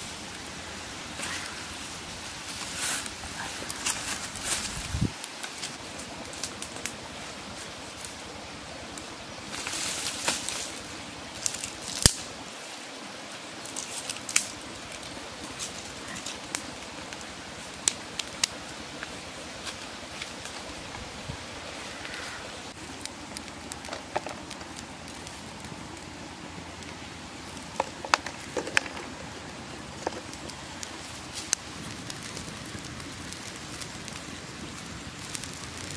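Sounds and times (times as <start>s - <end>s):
wood fire crackling and popping: 0.0s - 21.0s, 21.8s - 35.9s
steady hiss: 0.0s - 35.9s.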